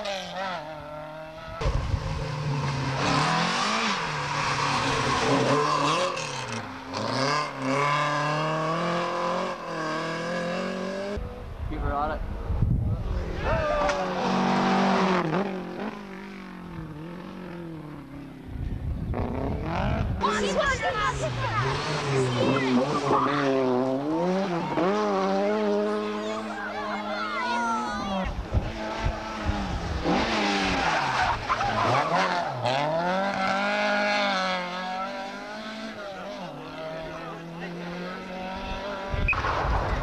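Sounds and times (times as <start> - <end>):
rally car engine at high revs: 0.0 - 11.2, 13.0 - 18.3, 19.1 - 39.6.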